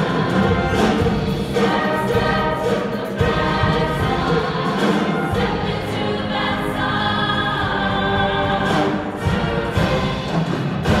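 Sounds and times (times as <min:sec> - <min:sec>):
women's choir singing in harmony: 0:00.0 - 0:11.0.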